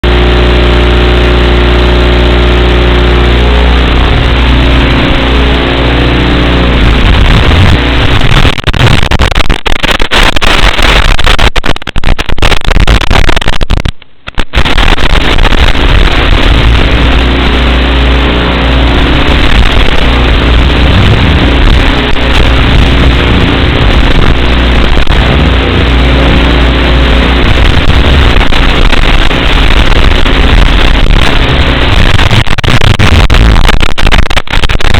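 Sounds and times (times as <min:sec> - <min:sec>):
low buzz: 0:00.0 - 0:34.9
static crackling: 0:00.0 - 0:34.9
static hiss: 0:00.0 - 0:34.9.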